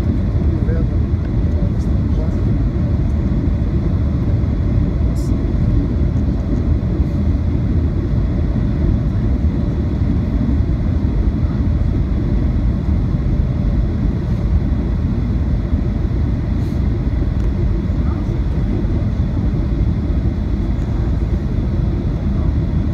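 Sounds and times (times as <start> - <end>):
jet airliner cabin rumble: 0.0 - 22.9.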